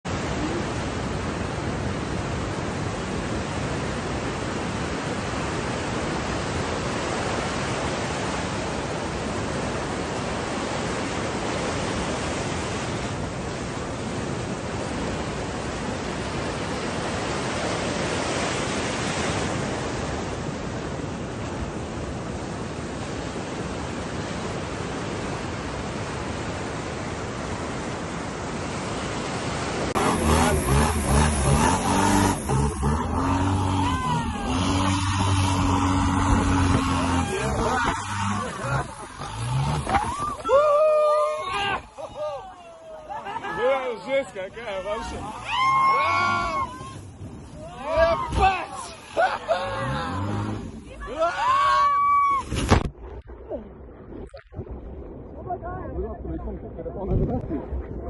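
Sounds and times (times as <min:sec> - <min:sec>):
stormy wind and sea rushing: 0:00.1 - 0:58.0.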